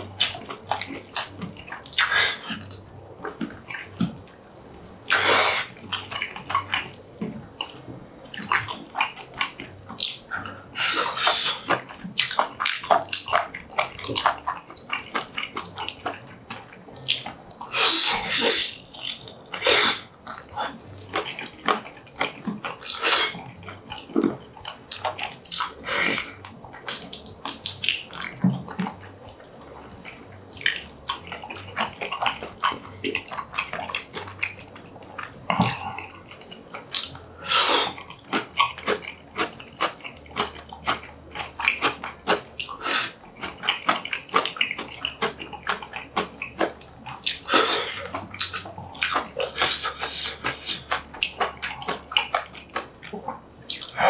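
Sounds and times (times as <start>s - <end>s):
wet chewing and lip-smacking: 0.0s - 54.0s.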